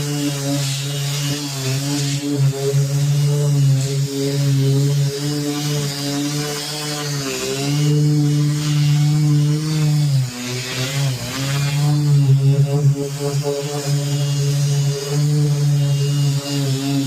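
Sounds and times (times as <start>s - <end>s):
power sander on car panel: 0.0s - 17.0s.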